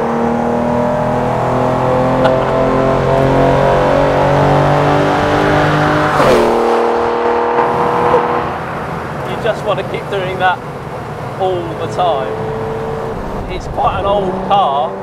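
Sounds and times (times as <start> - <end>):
rally car engine at high revs: 0.0 - 9.0, 11.7 - 15.0.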